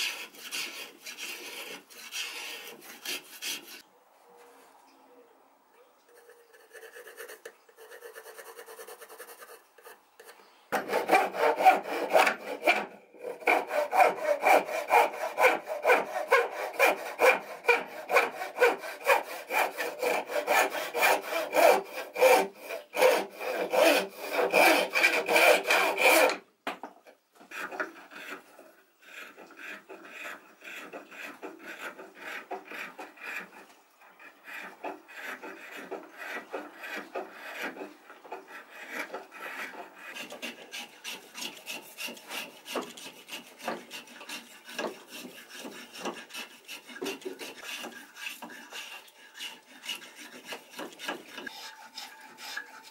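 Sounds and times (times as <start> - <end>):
edge tool scraping wood: 0.0 - 3.8, 6.1 - 26.4, 27.4 - 33.6, 34.6 - 52.9
hand saw cutting wood: 0.0 - 3.8, 6.4 - 26.5, 27.4 - 52.9
pencil scratching on wood: 0.0 - 3.8, 6.1 - 26.4, 27.4 - 33.6, 34.4 - 52.9.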